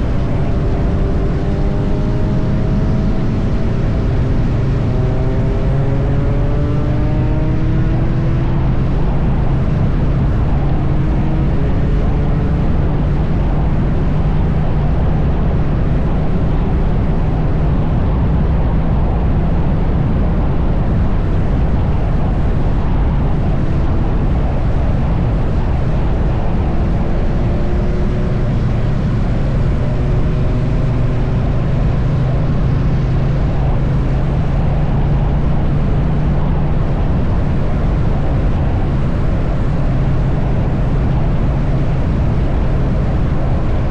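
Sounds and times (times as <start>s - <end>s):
motorcycle engine cruising: 0.0s - 43.9s
wind and road noise: 0.0s - 43.9s.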